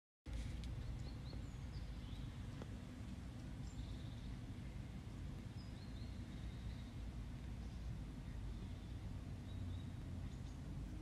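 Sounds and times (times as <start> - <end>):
low background rumble: 0.3 - 11.0.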